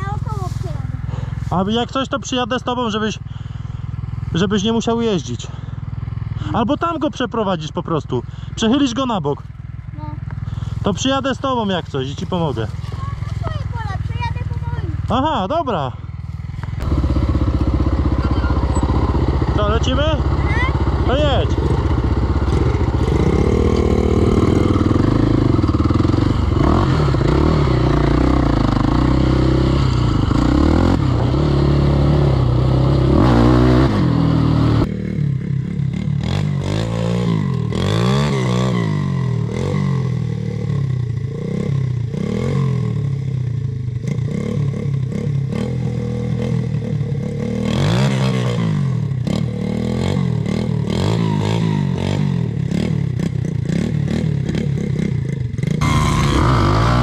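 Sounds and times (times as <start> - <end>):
off-road vehicle engine revving: 10.0 - 57.0.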